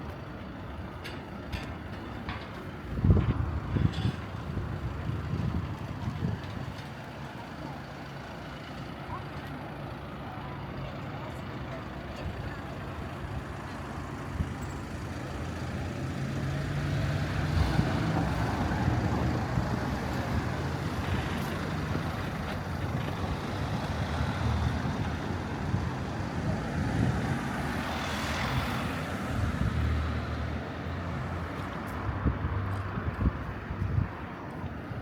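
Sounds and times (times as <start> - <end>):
low rumble of city street: 0.0 - 35.0.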